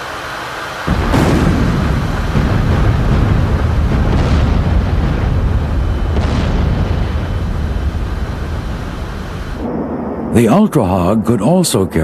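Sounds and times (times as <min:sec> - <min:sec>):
explosions with low rumble: 0:00.9 - 0:12.0.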